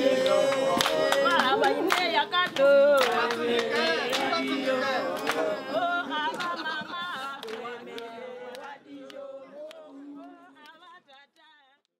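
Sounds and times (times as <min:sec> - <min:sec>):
group of voices singing: 0:00.0 - 0:11.3
hand claps: 0:00.1 - 0:05.5, 0:06.2 - 0:10.8.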